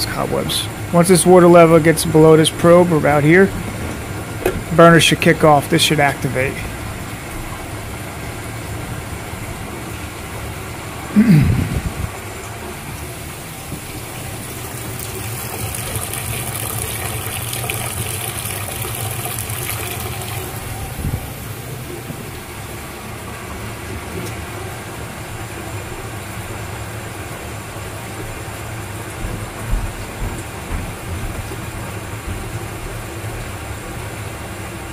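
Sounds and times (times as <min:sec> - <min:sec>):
gas burner rumbling: 0:00.0 - 0:34.9
water gushing from drain: 0:00.0 - 0:34.9.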